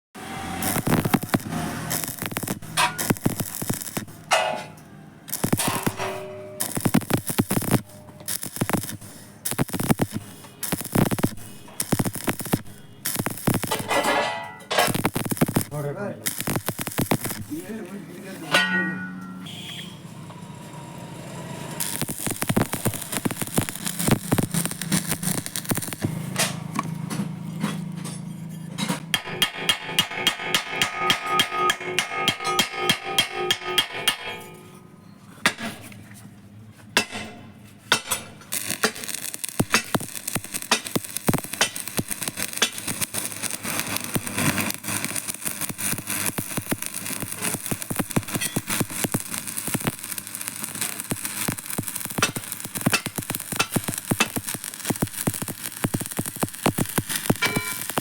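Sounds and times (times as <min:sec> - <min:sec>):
arc welding crackling: 0:00.2 - 0:27.9, 0:29.1 - 0:34.6, 0:37.0 - 0:58.0.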